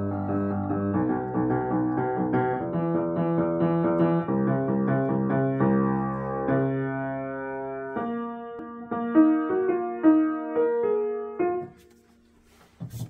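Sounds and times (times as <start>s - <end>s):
upright piano playing: 0.0s - 11.9s.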